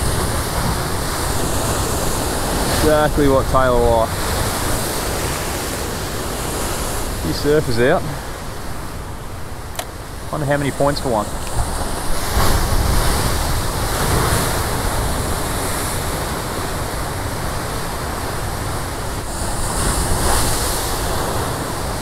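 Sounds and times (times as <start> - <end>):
surf washing over rocks: 0.0 - 22.0.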